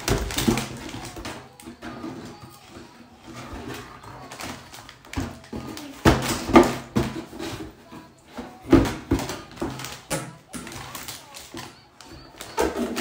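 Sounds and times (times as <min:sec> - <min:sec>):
foil bag crinkling: 0:00.0 - 0:06.9, 0:08.6 - 0:13.0.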